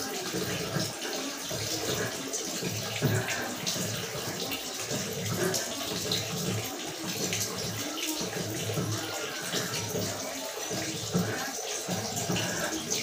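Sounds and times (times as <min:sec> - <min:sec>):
faint voices: 0:00.0 - 0:13.0
running water rushing: 0:00.0 - 0:13.0.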